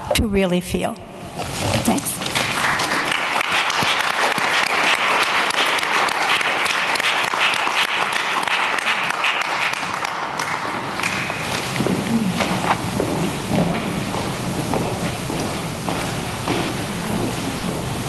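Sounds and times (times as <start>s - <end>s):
audience clapping: 2.1s - 18.0s.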